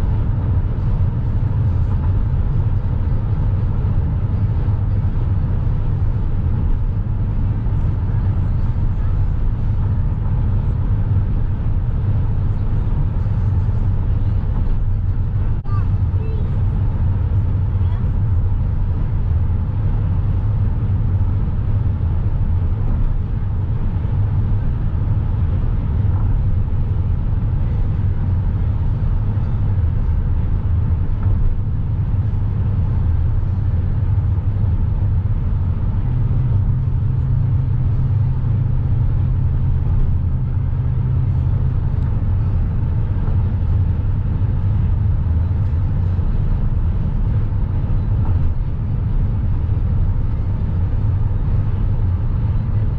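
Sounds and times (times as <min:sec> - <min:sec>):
car cabin road and engine rumble: 0:00.0 - 0:52.9.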